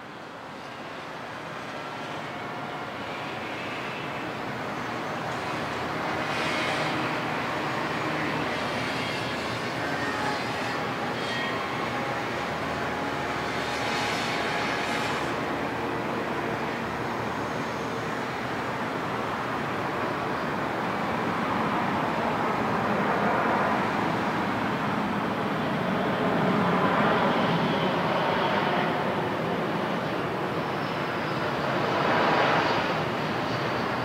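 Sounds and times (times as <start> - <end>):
jet airliner landing rush: 0.5 - 34.0.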